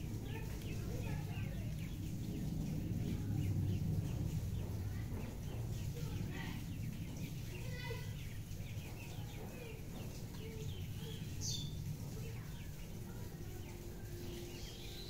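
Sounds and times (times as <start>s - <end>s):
steady low rumble: 0.0s - 14.6s
small birds chirping: 0.0s - 15.0s.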